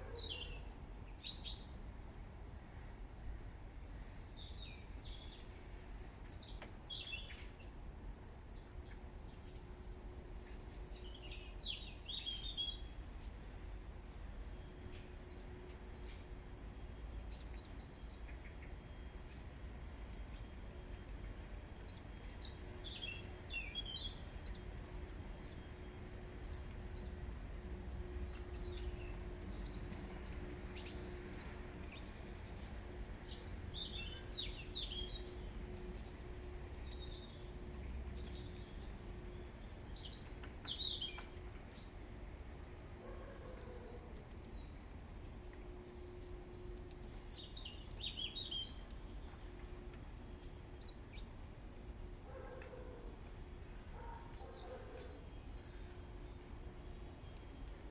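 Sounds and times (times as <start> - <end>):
small birds chirping: 0.0 - 3.3, 3.9 - 7.8, 8.5 - 13.5, 14.2 - 44.9, 45.5 - 57.9.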